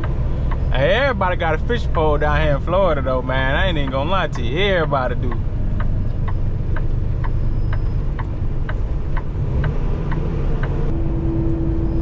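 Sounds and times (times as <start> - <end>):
turn signal clicking: 0.0 - 11.6
truck engine and road rumble: 0.0 - 12.0.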